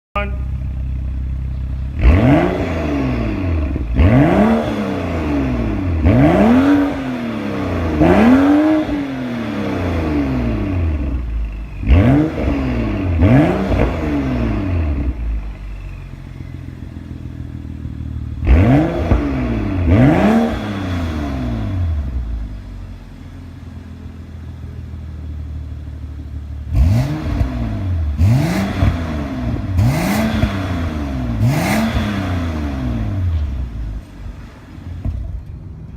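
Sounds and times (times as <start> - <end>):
car engine idling: 0.2 - 35.9
car engine revving: 0.4 - 24.6, 25.6 - 35.6.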